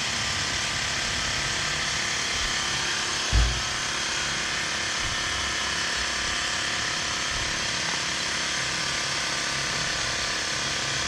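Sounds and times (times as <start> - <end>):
motor running: 0.0 - 11.0.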